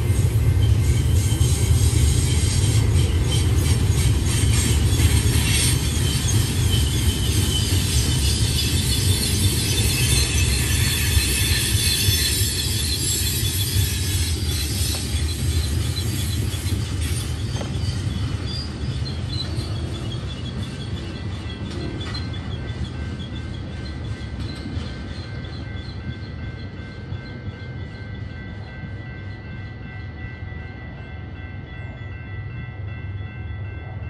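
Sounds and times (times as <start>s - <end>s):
freight train rumbling by: 0.0s - 34.0s.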